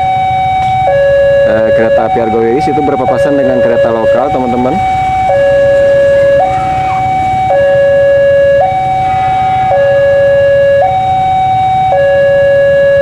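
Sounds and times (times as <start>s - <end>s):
two-tone crossing alarm: 0.0s - 13.0s.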